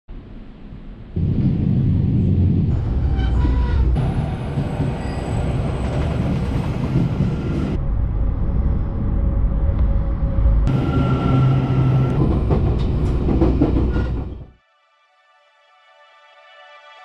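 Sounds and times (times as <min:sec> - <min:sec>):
train rumbling on rails: 0:00.1 - 0:14.6.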